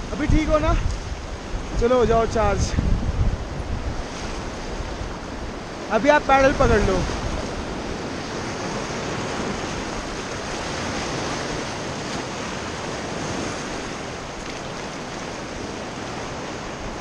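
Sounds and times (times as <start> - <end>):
fast-flowing whitewater: 0.0 - 17.0.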